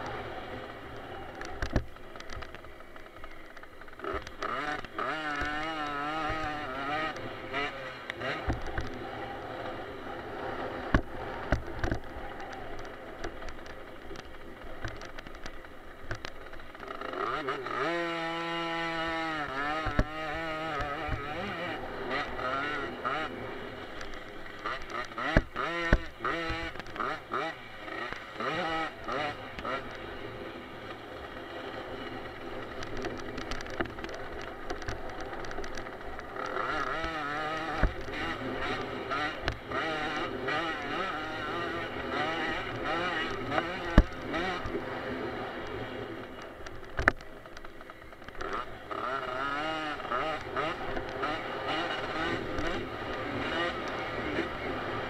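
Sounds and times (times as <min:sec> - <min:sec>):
bike knocking and rattling: 0:00.0 - 0:18.0, 0:18.6 - 0:55.0
dirt bike engine revving: 0:00.0 - 0:55.0.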